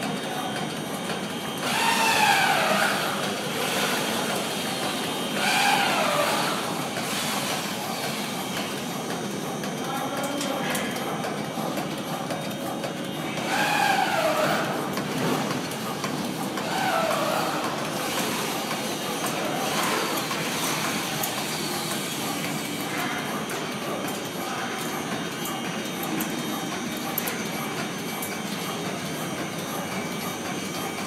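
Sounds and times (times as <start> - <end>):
cutting machine running: 1.4 - 8.6, 13.2 - 31.0.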